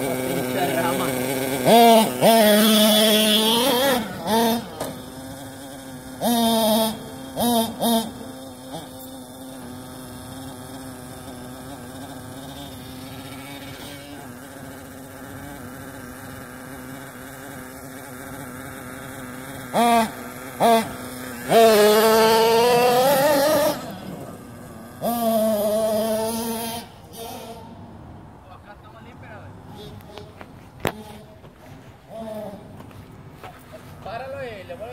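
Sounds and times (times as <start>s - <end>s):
small engine idling and revving: 0.0s - 34.9s.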